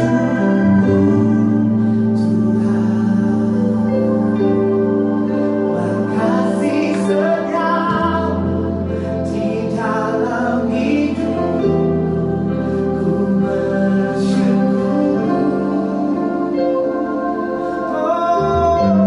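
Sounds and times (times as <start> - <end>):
keyboard chords: 0.0 - 19.0
person singing: 0.0 - 19.0.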